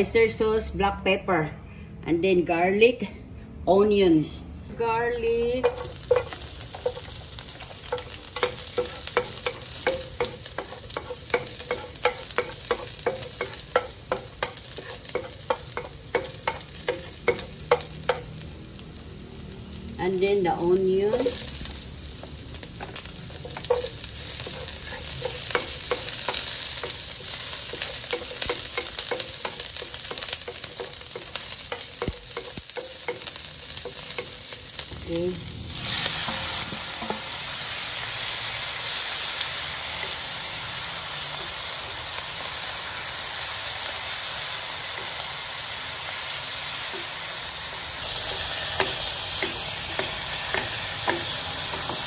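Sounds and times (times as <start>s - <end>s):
onion and garlic sizzling in oil: 5.1s - 52.0s
chicken sizzling in a pan: 5.7s - 52.0s.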